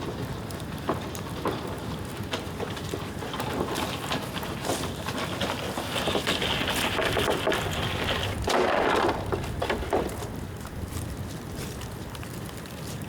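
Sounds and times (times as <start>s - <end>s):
bamboo fire crackling and popping: 0.0s - 13.0s
fire flare-up rushing: 0.0s - 13.0s.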